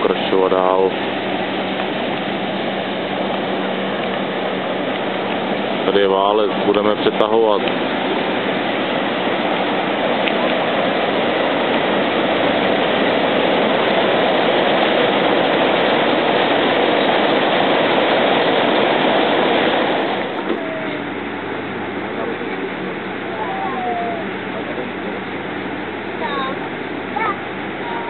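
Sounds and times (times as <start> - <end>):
water rushing over a weir: 0.0 - 28.0.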